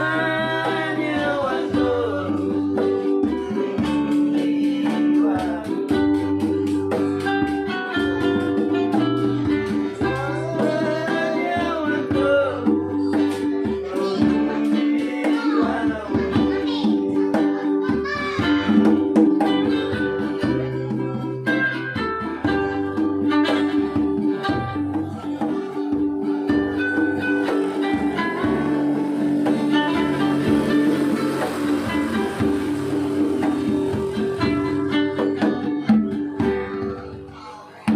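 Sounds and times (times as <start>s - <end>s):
plucked bass line: 0.0s - 37.9s
strummed guitar and ukulele: 0.0s - 37.9s.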